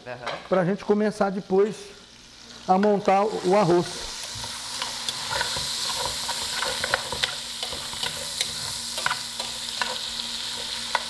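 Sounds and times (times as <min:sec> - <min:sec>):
bacon sizzling in a pot: 0:00.0 - 0:11.0.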